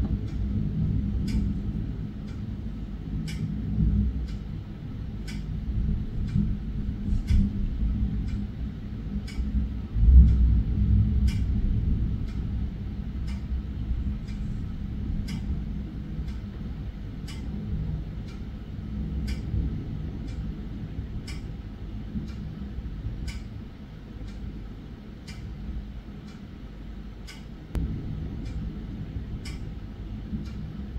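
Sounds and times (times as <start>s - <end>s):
thunder rumbling: 0.0s - 24.7s, 27.7s - 30.9s
clock ticking: 0.0s - 30.9s.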